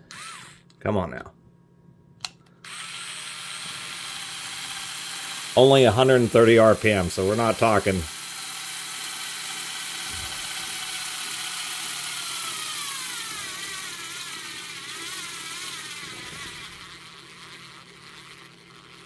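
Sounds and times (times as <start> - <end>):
electric screwdriver whining: 0.0 - 0.8, 2.6 - 19.0.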